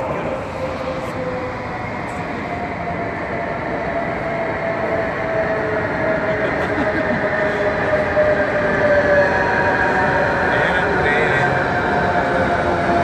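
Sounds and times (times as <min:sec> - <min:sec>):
train wheels and motors rumbling: 0:00.0 - 0:13.0.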